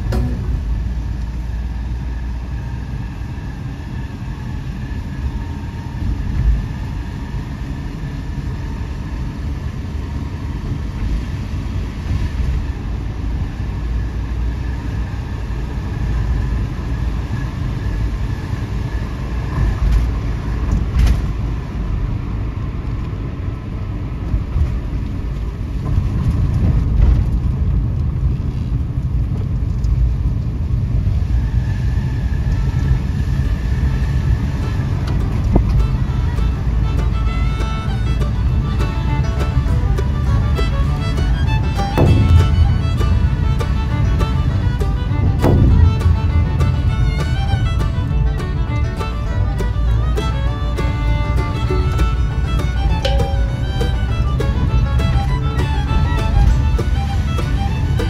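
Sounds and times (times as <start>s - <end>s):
road noise: 0.0s - 58.0s
van engine rumble: 0.0s - 58.0s.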